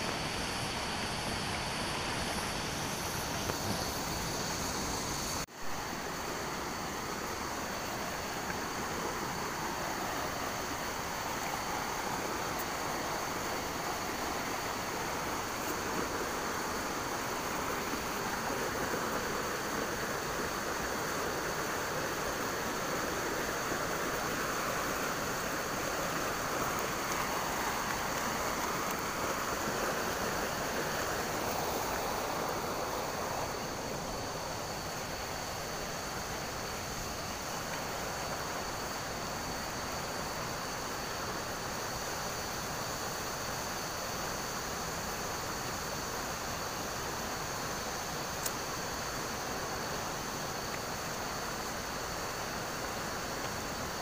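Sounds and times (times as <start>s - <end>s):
river rushing over rapids: 0.0s - 54.0s.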